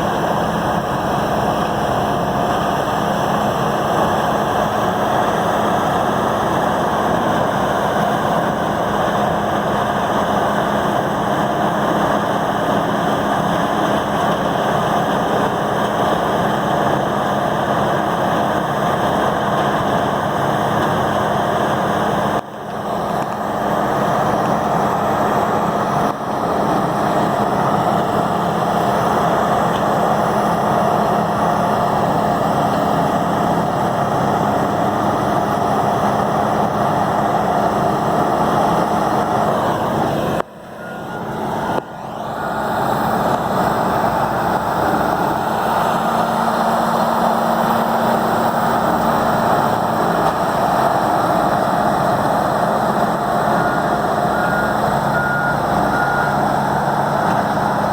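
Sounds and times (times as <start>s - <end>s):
diesel grinder droning: 0.0s - 57.9s.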